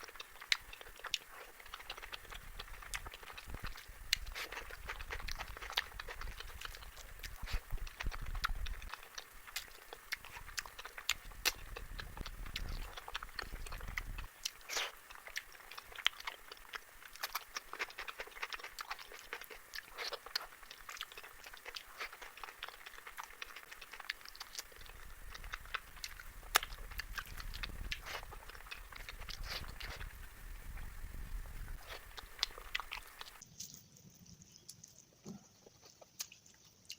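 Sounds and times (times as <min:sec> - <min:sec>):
person chewing food: 0:00.0 - 0:33.4, 0:34.7 - 0:36.9
food crunching: 0:00.0 - 0:33.8, 0:34.5 - 0:36.9.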